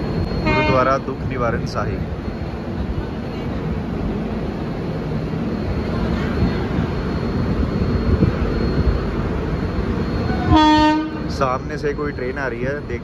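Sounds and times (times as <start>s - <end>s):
rushing air: 0.0s - 12.4s
train wheels rumbling on rails: 0.0s - 13.0s.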